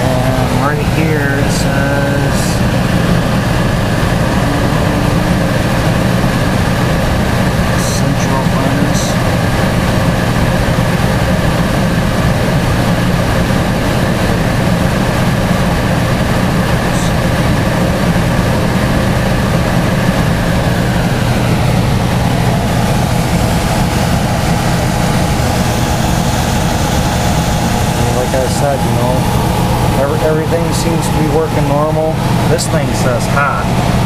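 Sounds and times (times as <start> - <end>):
faint high whine: 0.0 - 34.0
furnace mechanical hum: 0.0 - 34.0.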